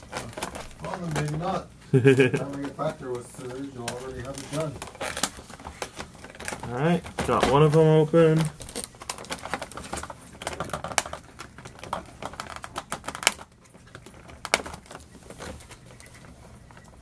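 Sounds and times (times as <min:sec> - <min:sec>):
plastic packaging clicking: 0:00.0 - 0:16.2.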